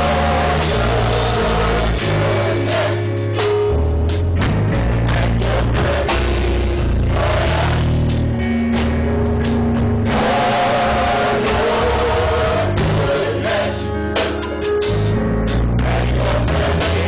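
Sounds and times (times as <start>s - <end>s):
gospel choir singing: 0.0s - 9.1s, 10.0s - 17.0s
instrumental accompaniment: 0.0s - 17.0s.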